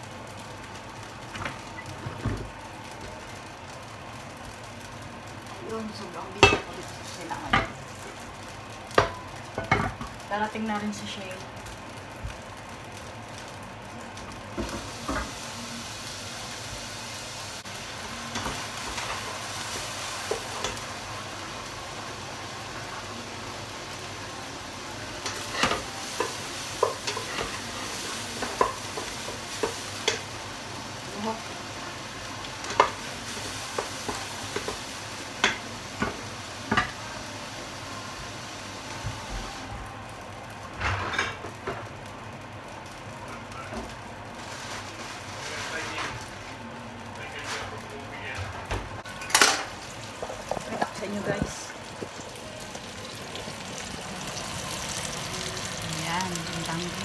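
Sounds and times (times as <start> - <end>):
rice sizzling: 0.0 - 57.0.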